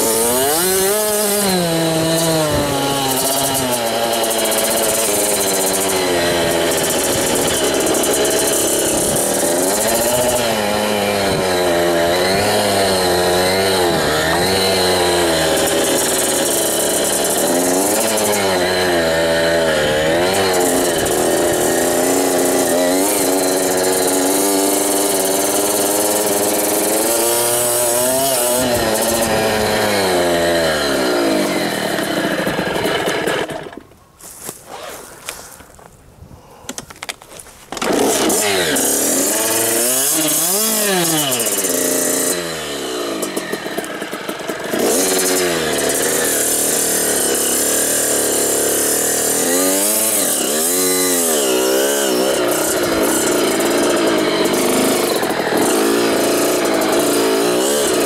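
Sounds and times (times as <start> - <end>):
dirt bike engine revving: 0.0 - 33.8, 37.7 - 58.0.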